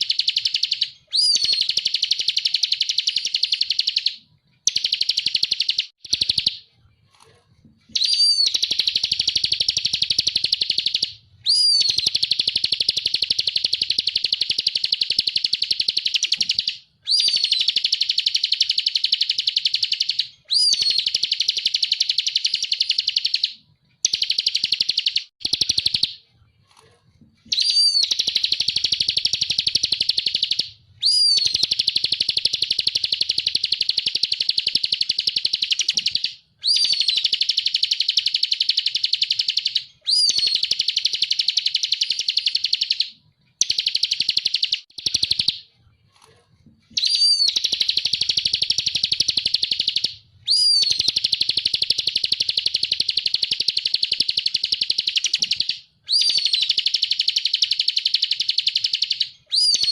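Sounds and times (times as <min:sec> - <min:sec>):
bird singing rattling trills: 0:00.0 - 0:06.6, 0:08.0 - 0:26.2, 0:27.5 - 0:45.6, 0:47.0 - 0:59.9.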